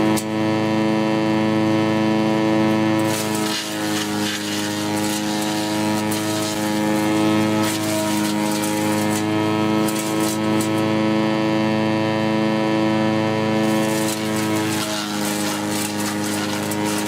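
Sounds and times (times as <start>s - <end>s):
wood chipper motor humming: 0.0s - 17.0s.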